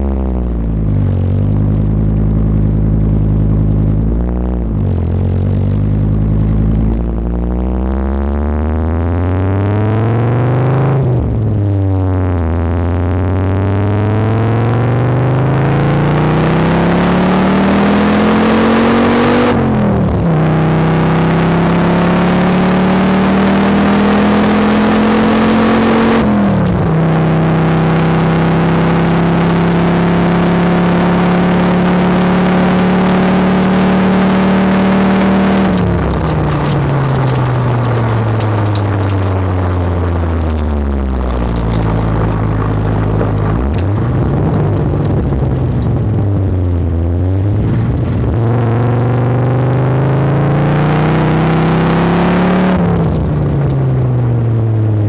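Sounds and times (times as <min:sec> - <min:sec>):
truck engine accelerating and shifting: 0:00.0 - 0:55.0.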